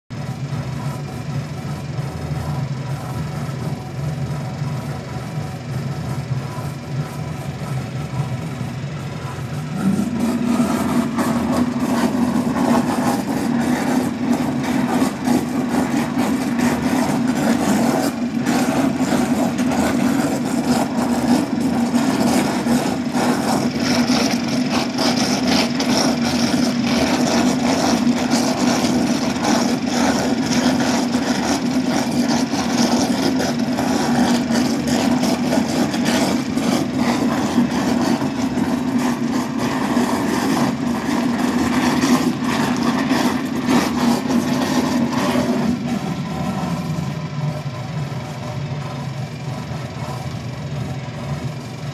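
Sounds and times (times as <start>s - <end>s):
butter churn motor hum: 0.1s - 51.9s.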